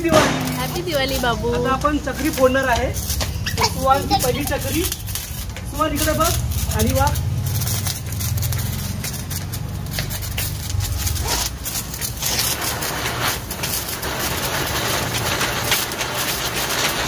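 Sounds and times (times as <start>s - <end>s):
crackling sparks: 0.0s - 17.0s
ground spinner firework fizzing: 0.0s - 17.0s.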